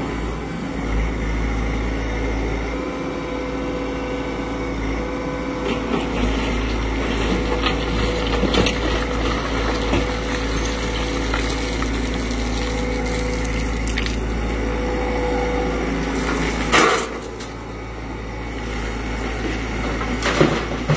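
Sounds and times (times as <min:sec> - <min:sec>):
excavator diesel engine running: 0:00.0 - 0:20.9
hydraulics working: 0:00.0 - 0:20.9.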